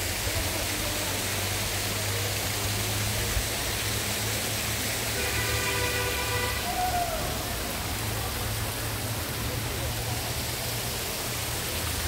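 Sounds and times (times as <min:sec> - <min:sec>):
cascading stream: 0:00.0 - 0:12.0
waterfall rushing: 0:00.0 - 0:12.0.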